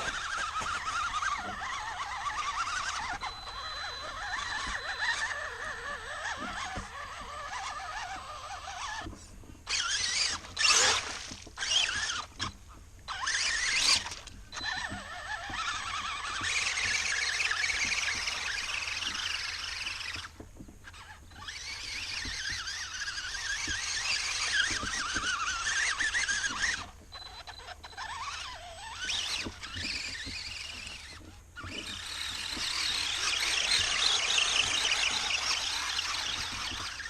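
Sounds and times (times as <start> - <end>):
electric motor whining: 0.0 - 37.0.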